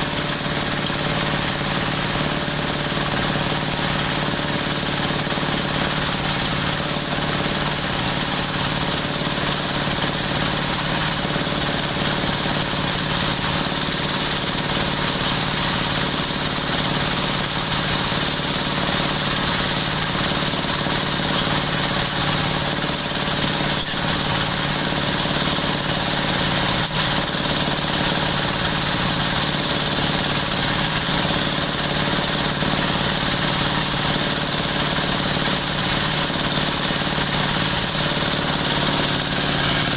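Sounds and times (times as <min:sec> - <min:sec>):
machine drone with high hiss: 0:00.0 - 0:39.9.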